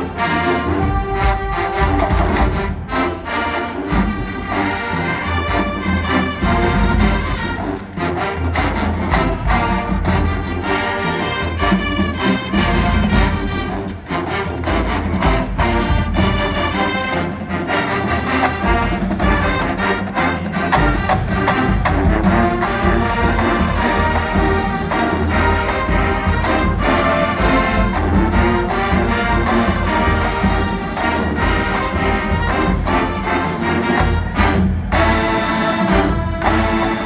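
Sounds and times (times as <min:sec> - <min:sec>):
brass section playing: 0:00.0 - 0:37.0
drumline drum hits: 0:00.0 - 0:37.0.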